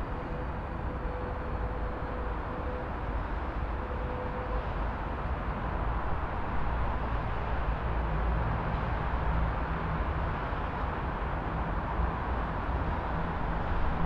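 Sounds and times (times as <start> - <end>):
low rumble of traffic: 0.0 - 14.0
road noise hiss: 0.0 - 14.0.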